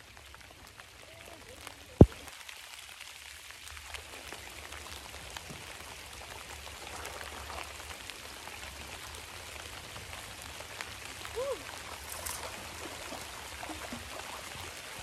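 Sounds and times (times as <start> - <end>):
rain falling on pond: 0.0 - 15.0.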